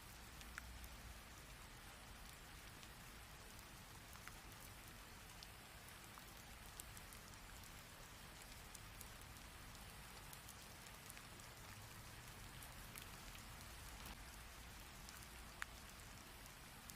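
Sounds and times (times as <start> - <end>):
raindrops ticking: 0.0 - 16.9.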